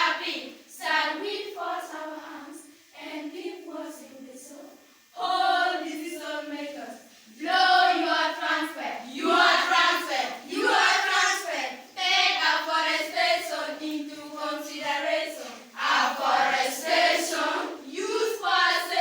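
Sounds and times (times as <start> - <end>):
children singing in unison: 0.0 - 2.6, 5.2 - 19.0.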